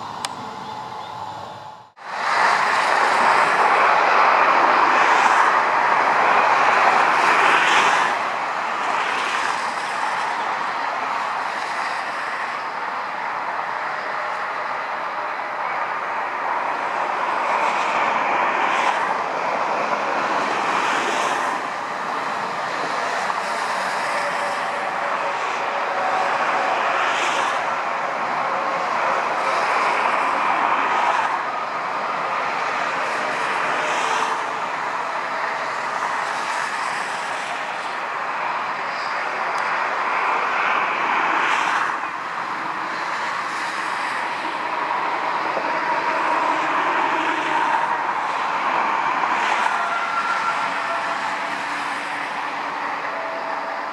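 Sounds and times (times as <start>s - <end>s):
jet engine noise: 0.0s - 53.9s.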